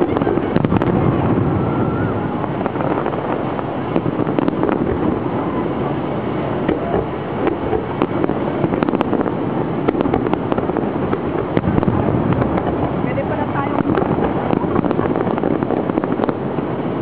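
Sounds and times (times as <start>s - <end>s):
firework pops and crackles: 0.0s - 5.3s, 6.5s - 17.0s.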